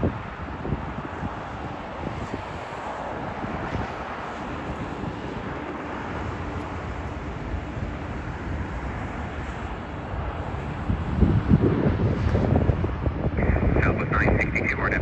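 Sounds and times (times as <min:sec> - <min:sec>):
freeway traffic roar: 0:00.0 - 0:15.0
jet aircraft engine noise: 0:00.0 - 0:15.0.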